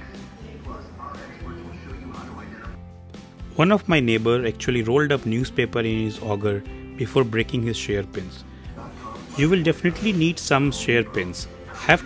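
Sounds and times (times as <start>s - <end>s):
background guitar music: 0.0s - 12.0s.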